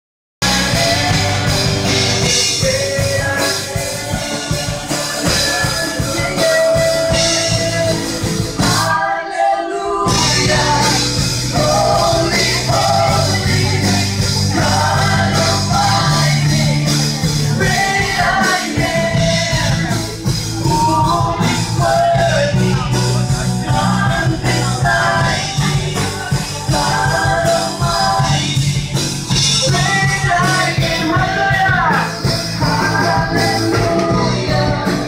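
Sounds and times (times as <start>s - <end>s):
electric guitar: 0.4s - 9.2s, 10.0s - 35.0s
keyboard: 0.4s - 35.0s
people singing: 0.4s - 35.0s.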